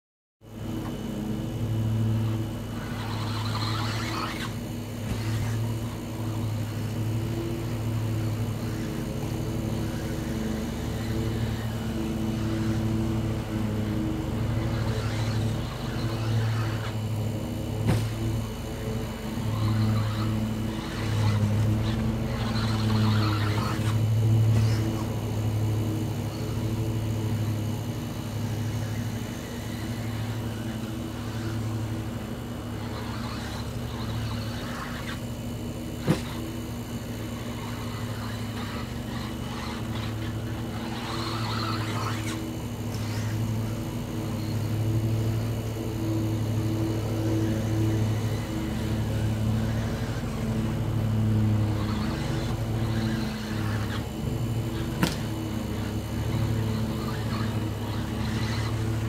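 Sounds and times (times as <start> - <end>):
steady low hum: 0.4 - 59.0
toy car motor and tyres passing: 0.5 - 59.0.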